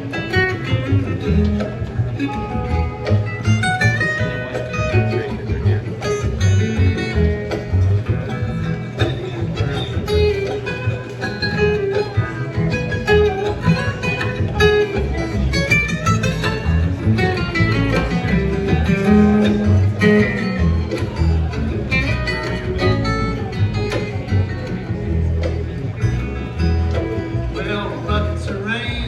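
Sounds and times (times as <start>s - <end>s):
bass line: 0.0s - 29.0s
picked acoustic guitar: 0.0s - 29.0s.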